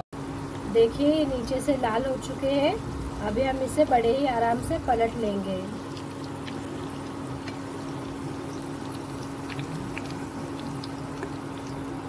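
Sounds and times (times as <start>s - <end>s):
low hum: 0.2s - 12.0s
patties sizzling in oil: 0.8s - 12.0s.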